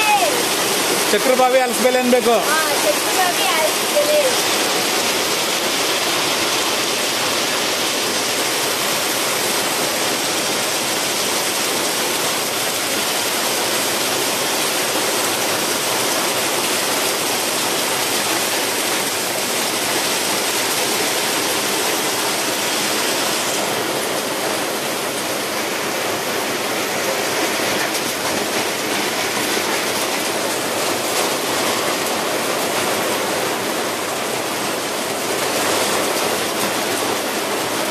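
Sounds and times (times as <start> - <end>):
heavy rain on pavement: 0.0 - 37.9.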